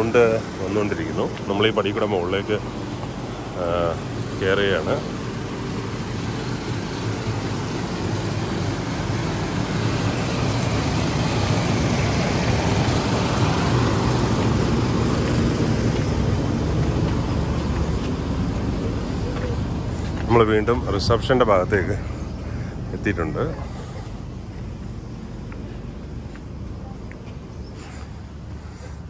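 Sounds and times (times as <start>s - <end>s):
generator engine humming: 0.0s - 29.0s.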